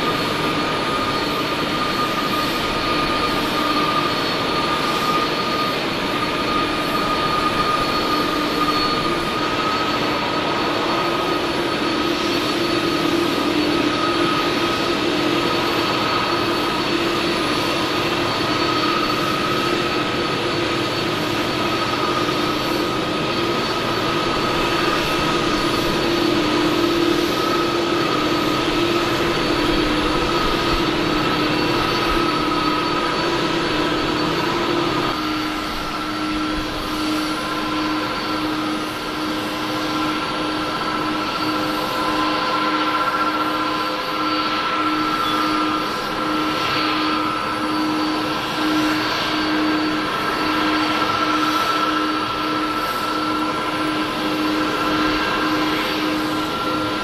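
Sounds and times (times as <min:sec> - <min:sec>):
jet engine whine: 0:00.0 - 0:57.0.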